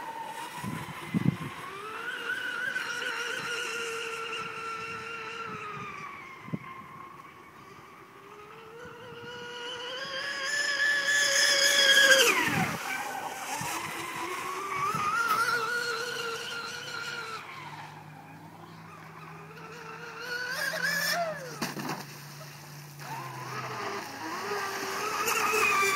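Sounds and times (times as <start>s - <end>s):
rc boat motor whine: 0.0s - 25.9s.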